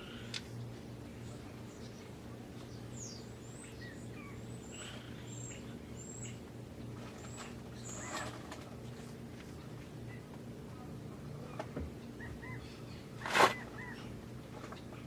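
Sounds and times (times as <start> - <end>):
birds chirping: 0.0 - 15.0
faint low hum: 0.0 - 15.0.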